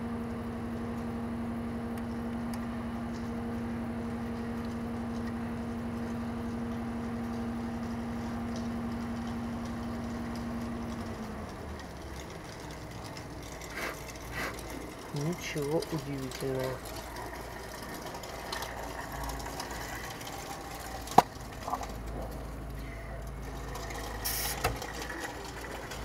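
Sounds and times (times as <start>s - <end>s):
motor-driven machine humming: 0.0s - 26.0s.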